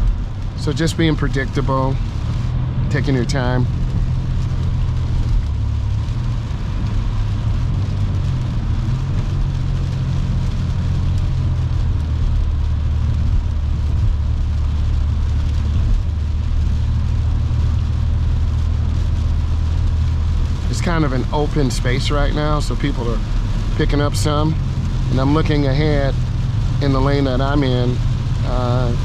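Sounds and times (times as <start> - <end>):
car cabin road drone: 0.0 - 29.0.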